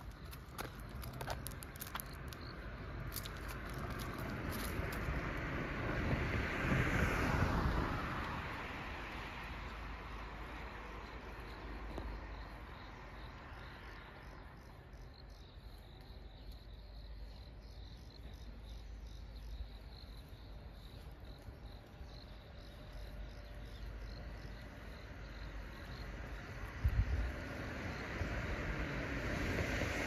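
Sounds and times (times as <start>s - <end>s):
crickets chirping: 0.0s - 30.0s
low traffic rumble: 0.0s - 30.0s.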